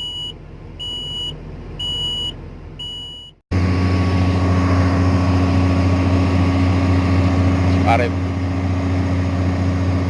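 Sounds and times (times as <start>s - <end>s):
diesel engine drone: 0.0s - 10.0s.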